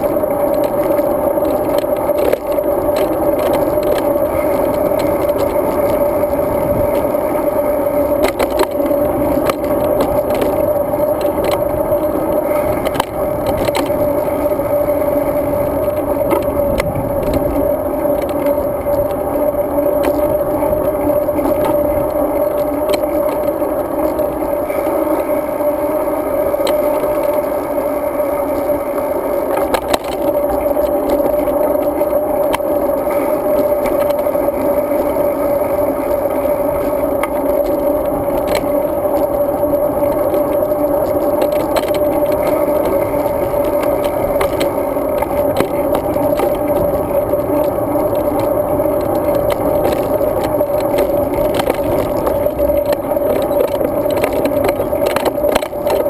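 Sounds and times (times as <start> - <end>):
bike rolling hum and rumble: 0.0 - 56.0.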